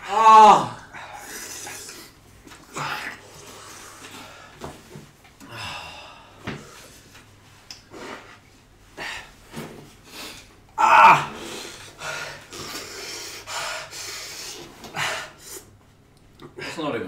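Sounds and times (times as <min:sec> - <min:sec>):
people breathing hard and sniffing: 0:00.9 - 0:10.6, 0:11.3 - 0:15.8.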